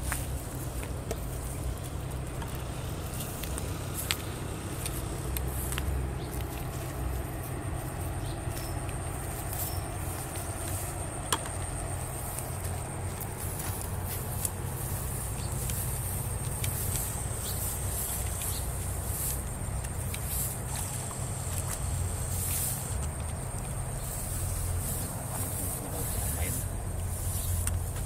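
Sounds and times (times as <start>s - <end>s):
footsteps through grass: 0.0s - 28.0s
steady low rumble: 0.0s - 28.0s.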